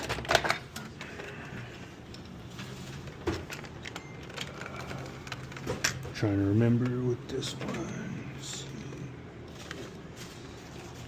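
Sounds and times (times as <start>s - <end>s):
vending machine hum: 0.0s - 11.0s.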